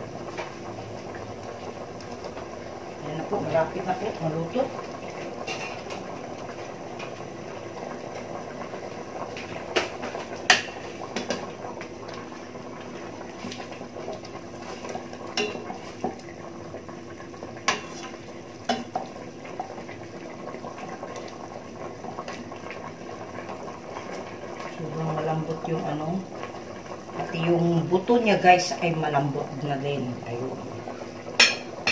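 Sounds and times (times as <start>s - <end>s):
stew simmering: 0.0s - 31.9s.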